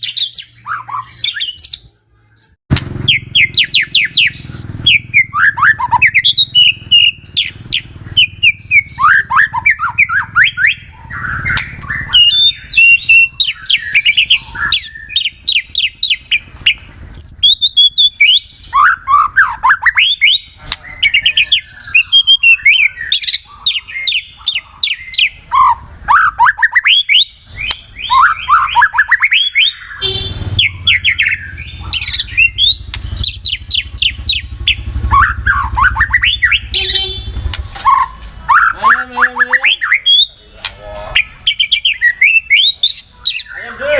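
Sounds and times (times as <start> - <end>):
songbird singing whistles: 0.0 - 37.2, 37.8 - 40.4, 41.2 - 43.6.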